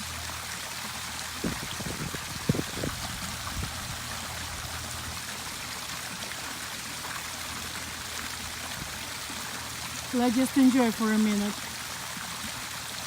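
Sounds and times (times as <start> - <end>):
waterfall splashing into pond: 0.0 - 13.0.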